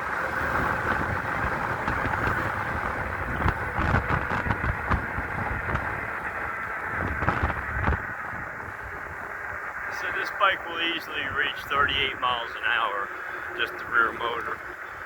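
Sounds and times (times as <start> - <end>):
electric bike rolling hum: 0.0 - 15.0
wind buffeting microphone: 0.0 - 15.0.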